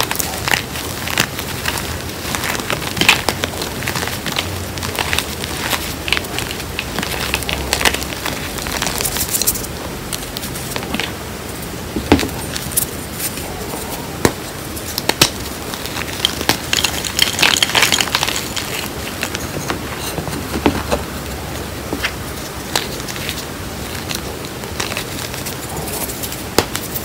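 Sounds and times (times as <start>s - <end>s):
chalk chunks snapping: 0.0s - 11.2s, 11.9s - 21.3s, 21.9s - 27.0s
hands crushing chalk: 0.0s - 27.0s.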